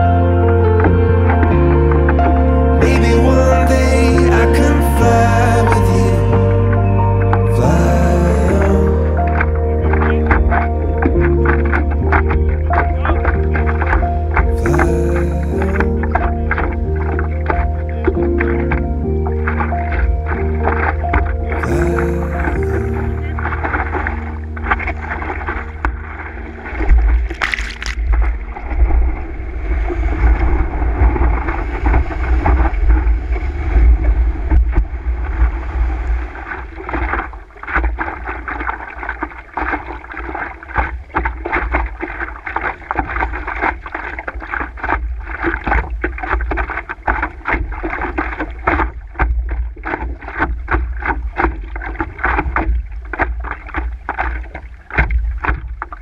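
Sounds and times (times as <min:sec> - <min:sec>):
water lapping and splashing: 0:00.0 - 0:56.0
wind rumble on microphone: 0:00.0 - 0:56.0.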